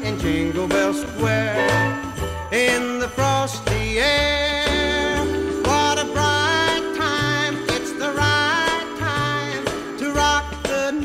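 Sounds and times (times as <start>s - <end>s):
christmas music with wavering melody: 0.0s - 11.0s.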